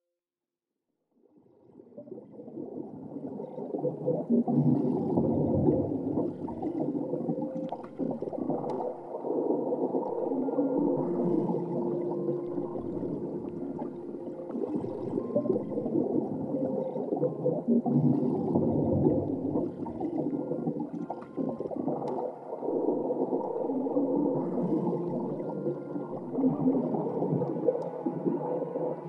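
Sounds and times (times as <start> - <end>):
muffled underwater wash: 1.2 - 29.0.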